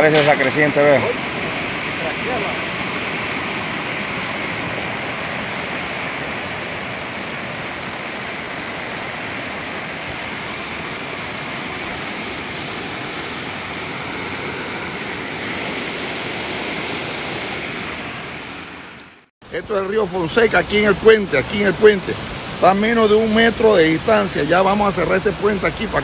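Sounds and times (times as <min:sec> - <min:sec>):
river rushing: 0:00.0 - 0:26.0.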